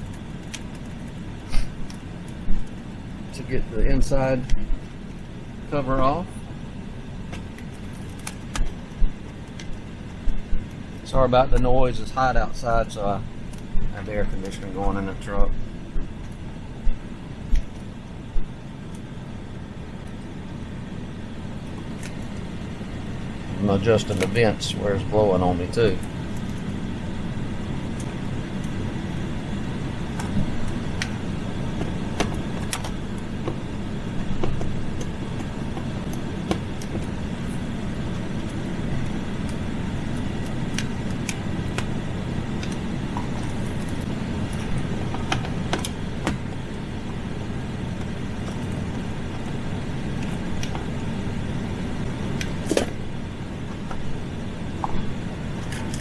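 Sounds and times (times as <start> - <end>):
air conditioning blowing: 0.0 - 56.0.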